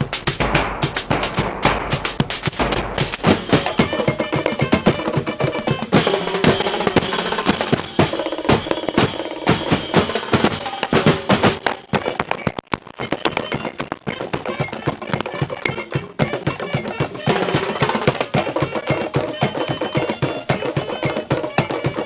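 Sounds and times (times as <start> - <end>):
drum ensemble playing fast beat: 0.0 - 22.0.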